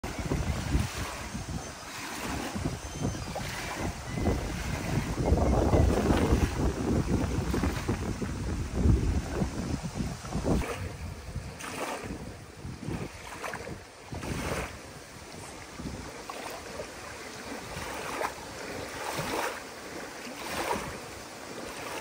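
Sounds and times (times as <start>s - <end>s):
small waves lapping on shore: 0.0s - 22.0s
wind buffeting microphone: 0.0s - 22.0s.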